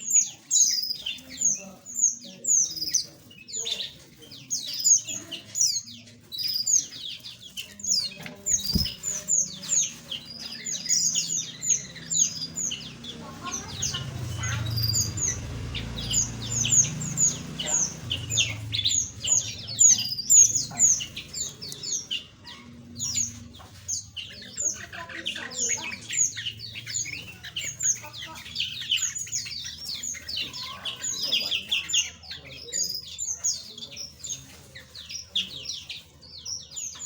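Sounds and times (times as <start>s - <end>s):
flock of small birds chirping: 0.0s - 37.0s.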